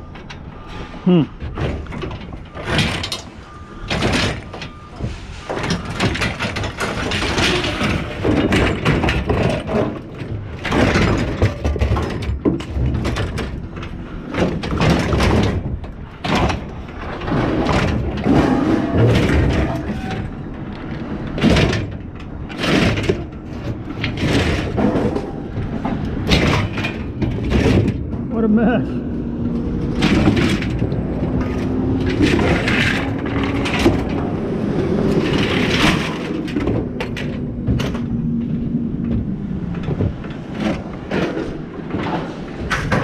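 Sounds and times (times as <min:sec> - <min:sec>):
scrap metal clanking: 0:01.6 - 0:28.2, 0:29.8 - 0:34.4, 0:35.0 - 0:39.2.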